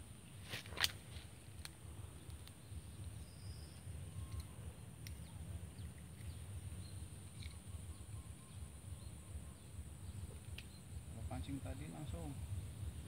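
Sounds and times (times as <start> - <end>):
bird chirps: 2.1 - 13.0.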